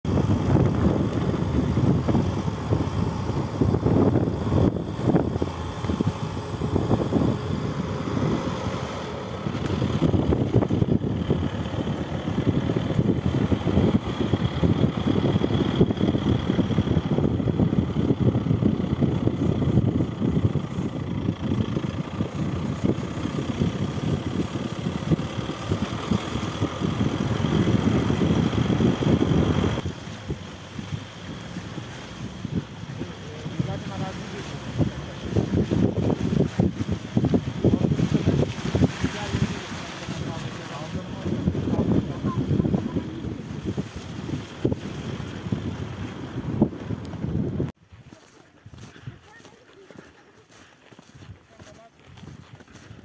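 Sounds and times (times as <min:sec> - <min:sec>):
vehicle driving on snow: 0:00.0 - 0:53.0.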